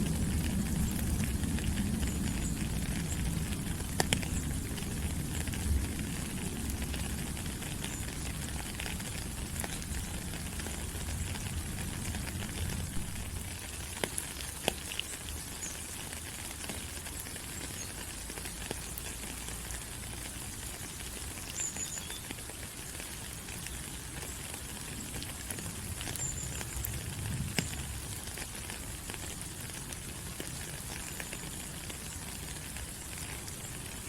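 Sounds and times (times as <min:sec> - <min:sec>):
rain falling on leaves: 0:00.0 - 0:34.0
raindrops pattering: 0:00.0 - 0:34.0.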